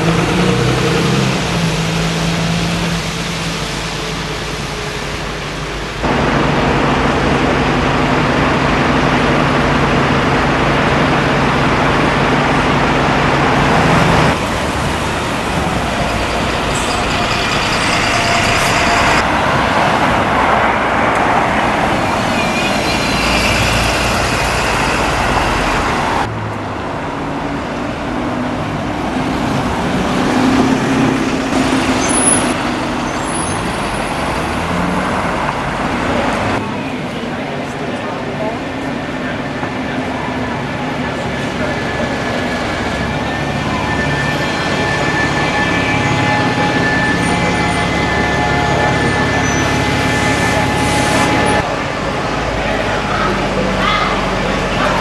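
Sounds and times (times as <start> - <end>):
high whine: 0.0 - 26.3, 28.8 - 55.0
large diesel engine running: 0.0 - 55.0.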